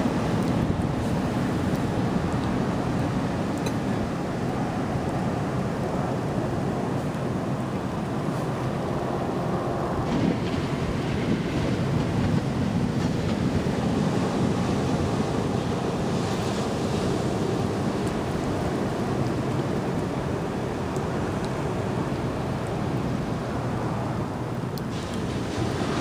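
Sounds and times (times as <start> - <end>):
surf hissing: 0.0 - 26.0
waves rumbling: 0.0 - 26.0
wind buffeting microphone: 0.0 - 26.0.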